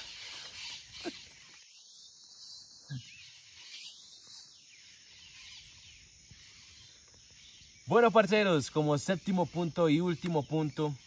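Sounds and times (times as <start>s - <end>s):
birds chirping: 0.0s - 11.0s
insects hissing: 0.0s - 11.0s.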